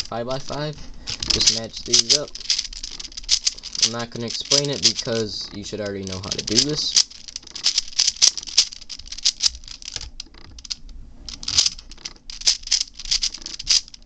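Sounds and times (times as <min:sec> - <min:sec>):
puzzle cube layers clicking: 0:00.0 - 0:14.0.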